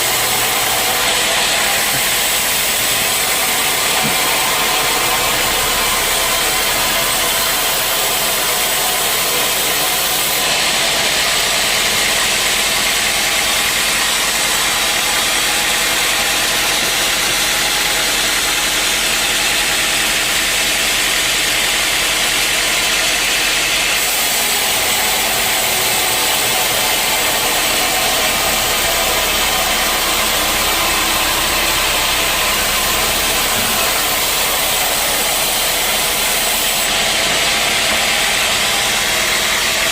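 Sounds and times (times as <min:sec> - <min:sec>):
sawmill machinery sawing wood: 0:00.0 - 0:39.9.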